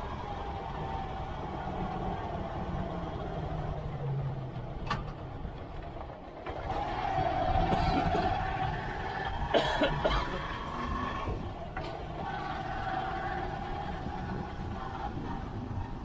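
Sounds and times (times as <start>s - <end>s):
motorcycle engine whine: 0.0s - 16.0s.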